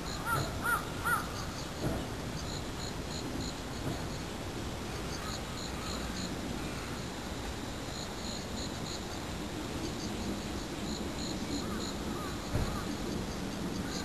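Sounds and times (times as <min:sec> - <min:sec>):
insect chirping: 0:00.0 - 0:14.0.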